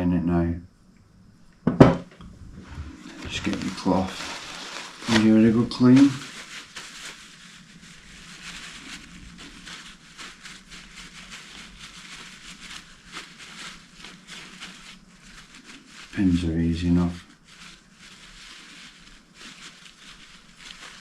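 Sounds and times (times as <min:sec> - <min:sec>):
cloth rubbing over pedal: 0:02.4 - 0:21.0.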